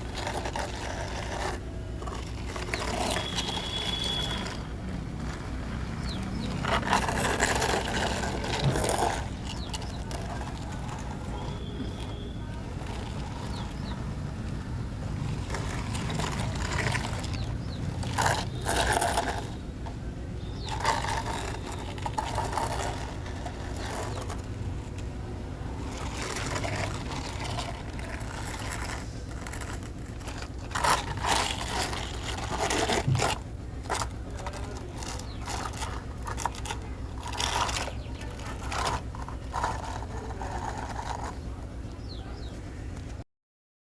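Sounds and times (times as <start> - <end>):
small motor running: 0.0 - 25.0, 25.7 - 41.4
scraping and crunching: 0.0 - 43.2.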